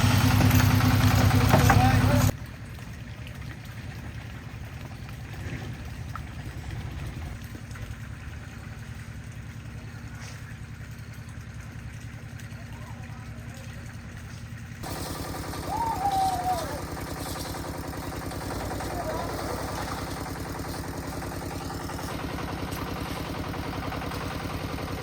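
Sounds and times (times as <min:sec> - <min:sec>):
concrete mixer engine humming: 0:00.0 - 0:25.0.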